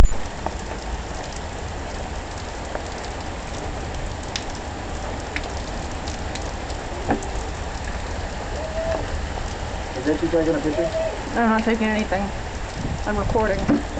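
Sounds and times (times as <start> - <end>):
heavy rain falling: 0.0 - 13.9
low thunder rumble: 0.0 - 13.9.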